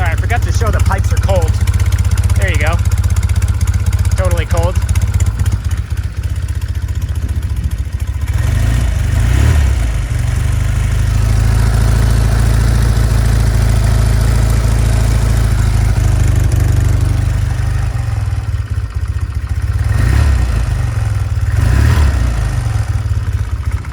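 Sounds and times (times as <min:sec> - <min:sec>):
motorcycle engine running: 0:00.0 - 0:23.9
motorcycle throttle blips: 0:00.0 - 0:23.9.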